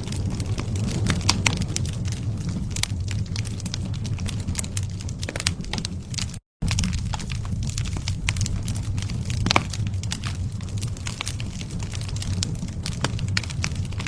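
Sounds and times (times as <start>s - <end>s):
campfire crackling: 0.0s - 14.0s
low fire rumble: 0.0s - 14.0s.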